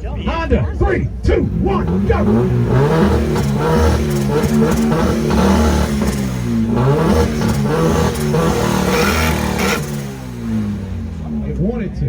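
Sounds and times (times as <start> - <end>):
exhaust pops: 0.0 - 12.0
car engine revving on limiter: 1.1 - 12.0.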